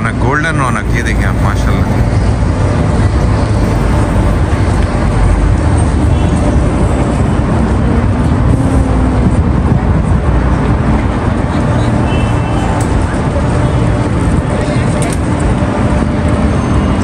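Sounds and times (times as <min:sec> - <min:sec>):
steady low rumble: 0:00.0 - 0:16.5
cars driving past: 0:00.0 - 0:17.0.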